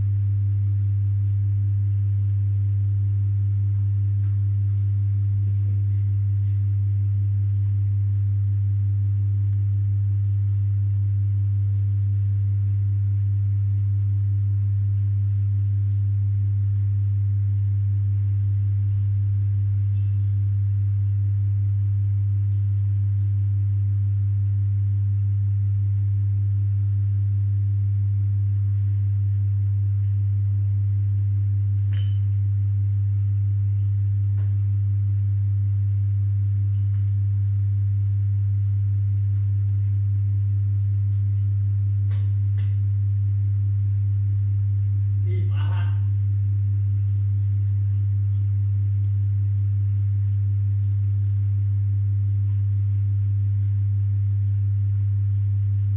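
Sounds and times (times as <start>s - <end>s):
loud steady low hum: 0.0s - 55.9s.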